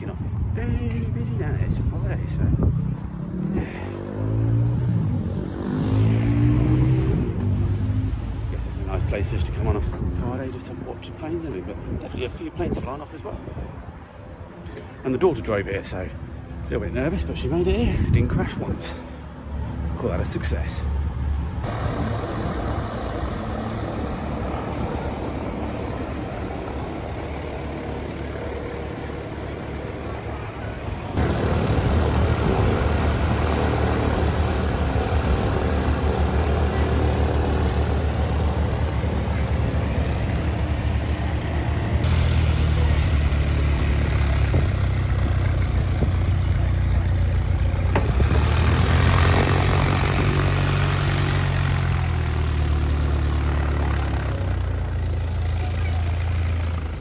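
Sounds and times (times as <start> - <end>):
light aircraft engine droning: 8.1 - 57.0.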